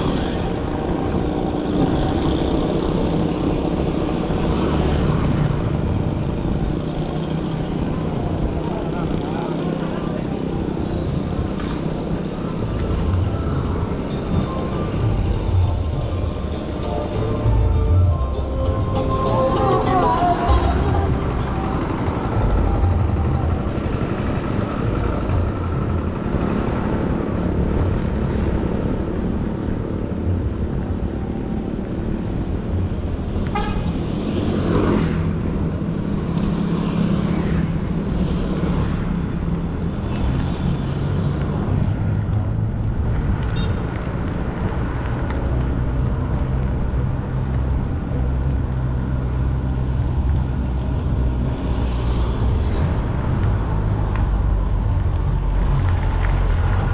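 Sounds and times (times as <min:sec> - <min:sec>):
passing traffic: 0:00.0 - 0:56.9
tyres rumbling on road: 0:00.0 - 0:56.9.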